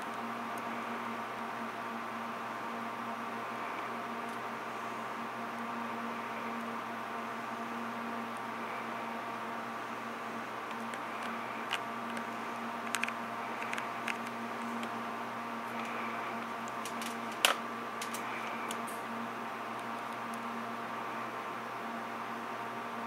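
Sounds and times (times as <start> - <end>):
room tone hum and hiss: 0.0 - 23.0.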